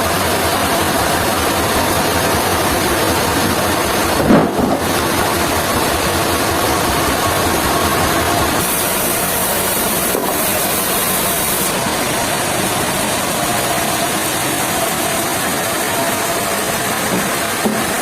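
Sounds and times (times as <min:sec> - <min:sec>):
heavy machinery running: 0:00.0 - 0:18.0.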